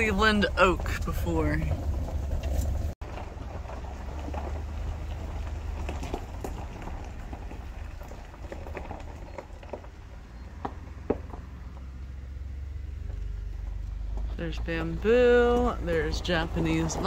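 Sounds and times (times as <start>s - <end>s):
vehicle engine and tyre rumble: 0.0s - 17.0s.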